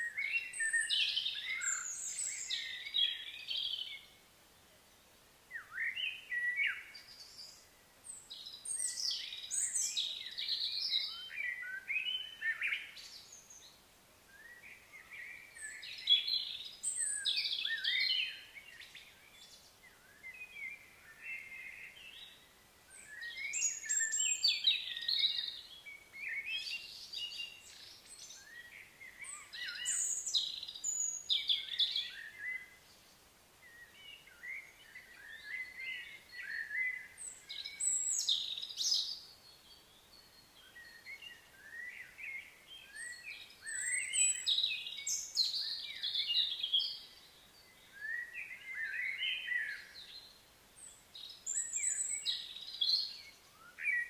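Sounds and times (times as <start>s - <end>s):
birds chirping and singing: 0.0s - 4.2s, 5.5s - 13.8s, 14.4s - 33.0s, 33.6s - 54.0s.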